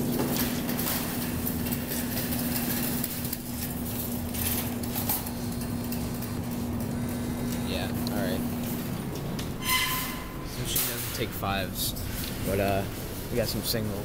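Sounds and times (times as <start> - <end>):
electrical hum and machine noise: 0.0 - 14.0.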